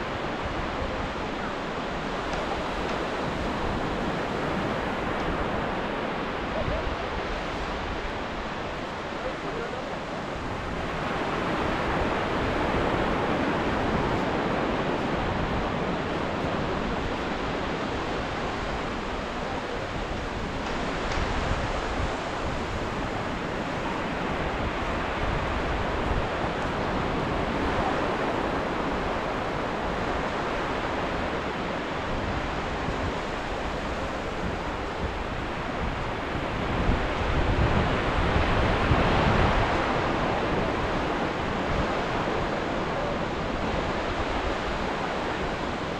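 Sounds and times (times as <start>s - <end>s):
waves breaking: 0.0s - 45.9s
wind on microphone: 0.0s - 45.9s.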